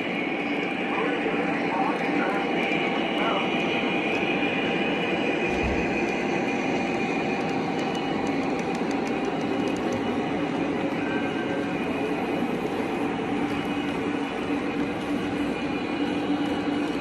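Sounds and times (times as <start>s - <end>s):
train rattling on rails: 0.0s - 17.0s.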